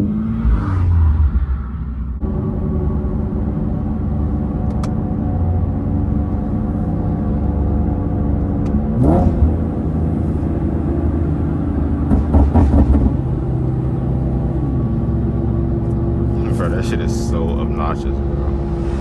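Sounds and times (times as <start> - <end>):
car engine revving loud exhaust: 0.0 - 19.0.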